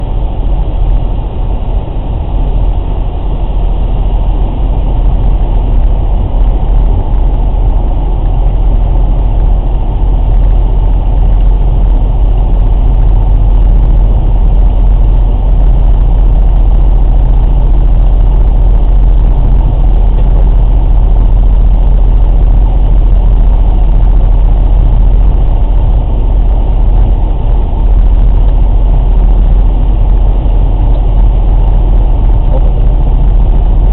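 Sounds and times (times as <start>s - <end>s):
vehicle low rumble: 0.0s - 33.9s.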